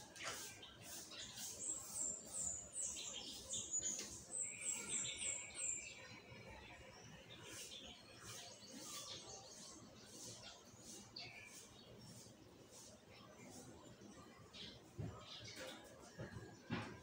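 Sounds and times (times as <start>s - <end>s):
small bird chirping: 0.0s - 16.3s.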